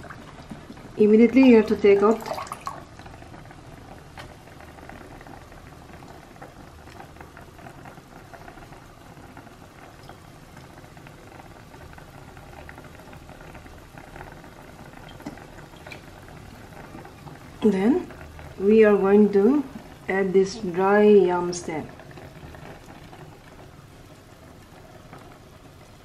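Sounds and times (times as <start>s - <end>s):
water boiling and bubbling: 0.0s - 26.0s.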